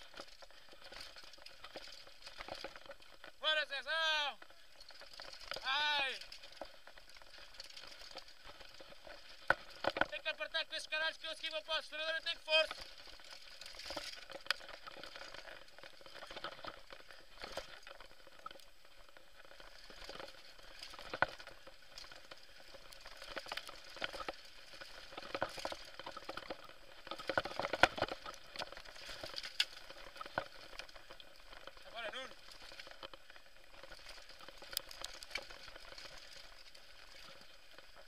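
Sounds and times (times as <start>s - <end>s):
tyres crackling over loose dirt: 0.0s - 38.0s
bike knocking and rattling: 4.8s - 10.4s, 11.9s - 38.0s.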